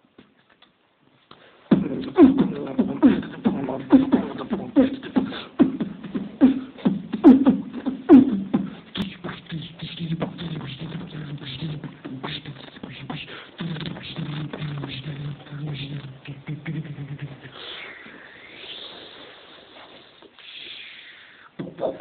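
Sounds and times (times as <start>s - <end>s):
beatboxing kick sounds: 1.3s - 19.2s, 20.2s - 22.0s.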